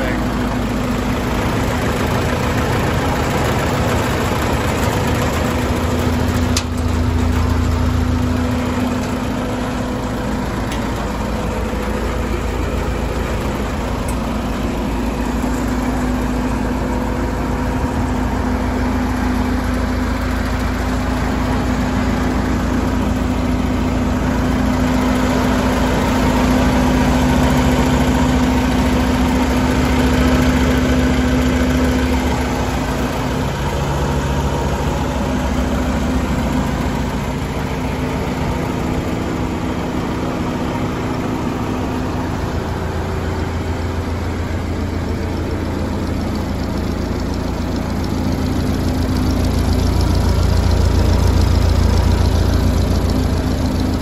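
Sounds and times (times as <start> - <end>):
welder engine running: 0.0 - 54.0.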